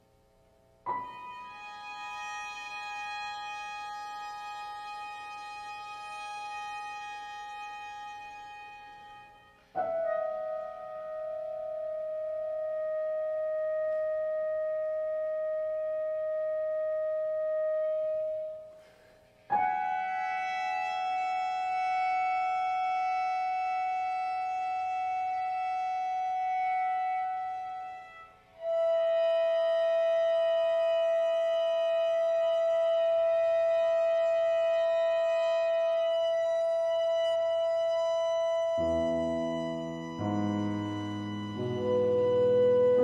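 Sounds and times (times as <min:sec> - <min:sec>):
chamber music long held notes: 0:00.9 - 0:43.0.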